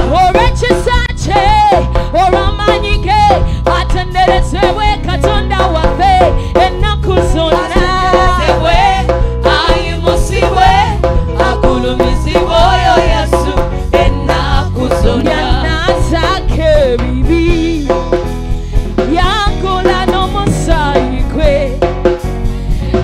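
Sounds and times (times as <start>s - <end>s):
upbeat gospel band music: 0.0s - 23.0s.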